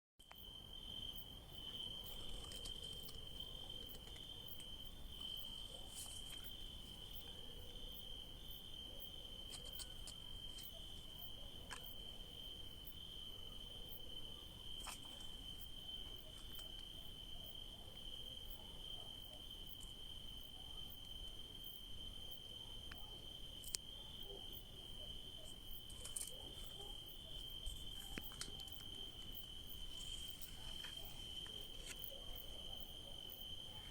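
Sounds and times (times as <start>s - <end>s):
crickets chirping: 0.3s - 33.9s.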